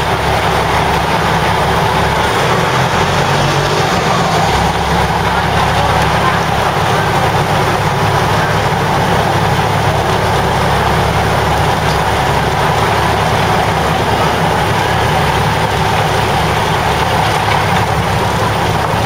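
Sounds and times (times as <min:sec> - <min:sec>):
railcar diesel engine humming: 0:00.0 - 0:19.0
train rolling noise: 0:00.0 - 0:19.0.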